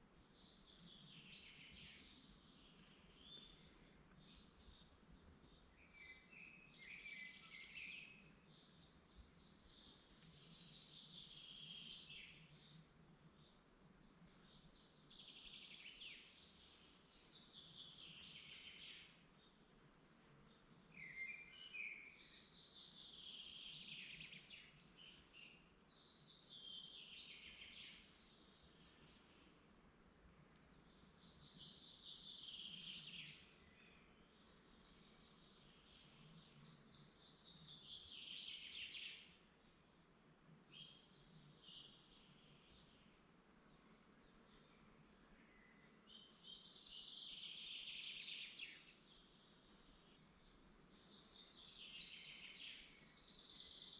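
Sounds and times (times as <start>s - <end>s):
songbirds singing faintly: 0.0s - 53.9s.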